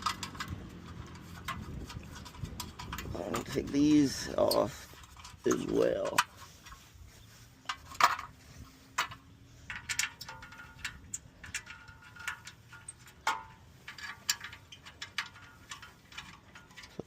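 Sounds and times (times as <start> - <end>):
clicks and metallic clinks of tools: 0.0 - 6.8, 7.6 - 17.0.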